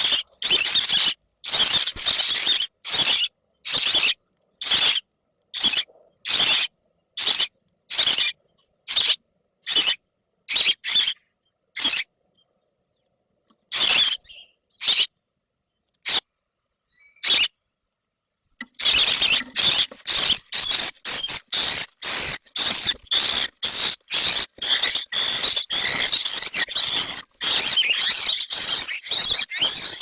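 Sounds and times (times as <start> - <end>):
baby birds cheeping: 0.0 - 12.1, 13.7 - 15.1, 15.9 - 16.3, 16.9 - 17.5, 18.6 - 30.0.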